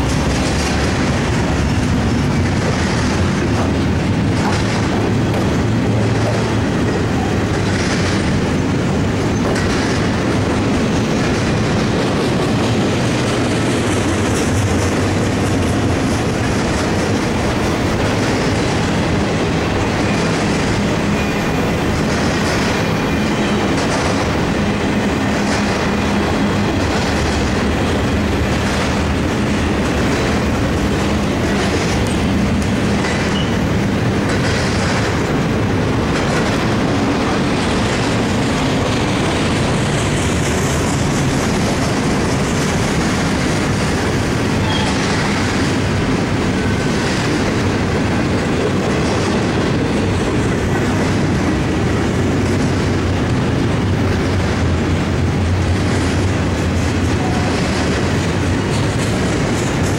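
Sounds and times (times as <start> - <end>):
freight wheels clacking over rail joints: 0.0 - 59.9.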